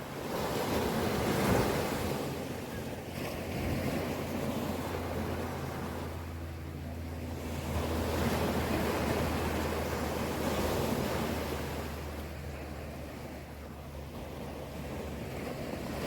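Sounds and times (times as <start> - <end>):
ocean surf washing ashore: 0.0 - 16.0
steady low hum: 2.4 - 16.0.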